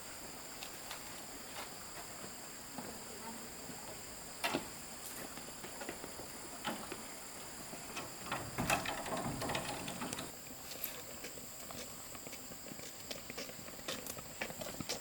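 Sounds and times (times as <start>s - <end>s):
high-pitched insect chorus: 0.0s - 15.0s
rustles and light knocks: 0.6s - 15.0s.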